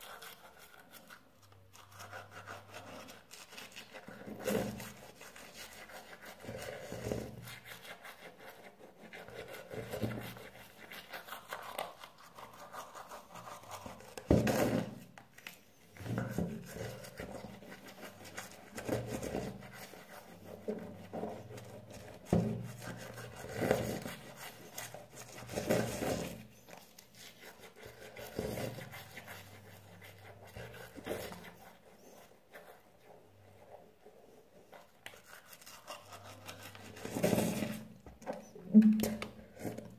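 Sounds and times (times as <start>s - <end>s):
toothbrush scrubbing teeth: 0.0s - 38.0s.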